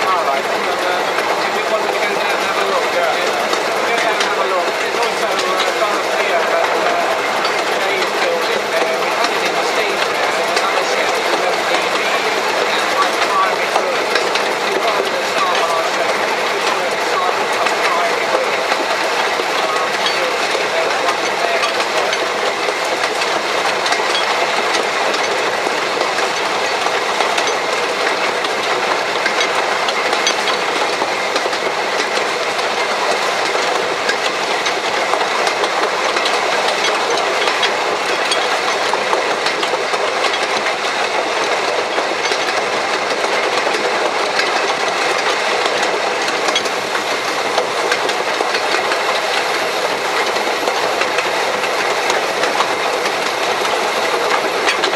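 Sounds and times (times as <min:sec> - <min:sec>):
train wheels on rail: 0:00.0 - 0:54.9
small clicks and clatters: 0:00.3 - 0:54.9.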